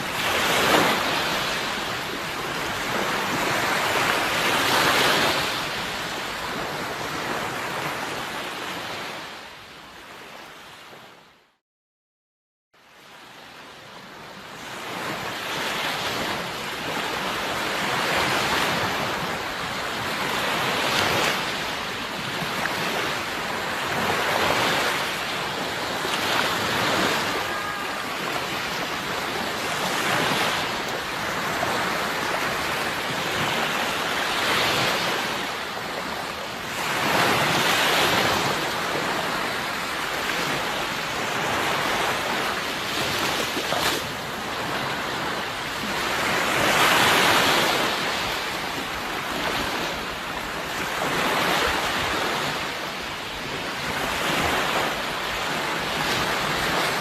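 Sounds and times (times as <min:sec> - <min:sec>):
sea waves breaking on shore: 0:00.0 - 0:11.3, 0:12.8 - 0:57.0.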